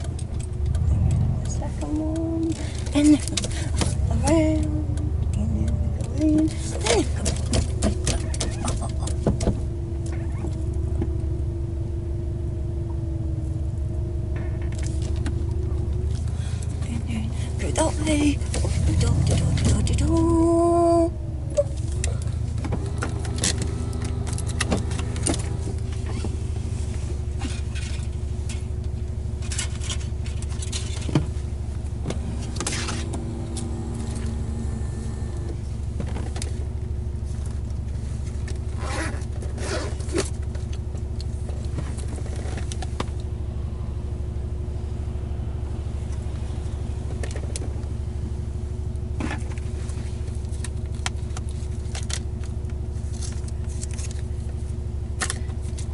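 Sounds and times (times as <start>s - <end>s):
clicks and rustling in seat: 0.0s - 11.4s, 14.2s - 43.3s, 46.1s - 48.1s, 49.0s - 55.9s
car engine idling: 0.0s - 55.9s.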